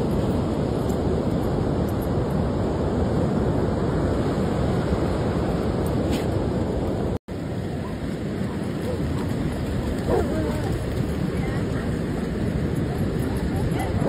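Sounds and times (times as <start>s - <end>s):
wind buffeting microphone: 0.0s - 14.0s
ocean surf rushing: 1.6s - 14.0s.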